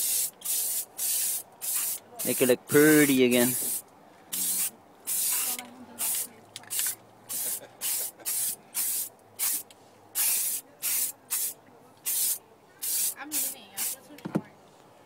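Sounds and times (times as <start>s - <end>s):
aerosol spray can hissing: 0.0s - 14.0s.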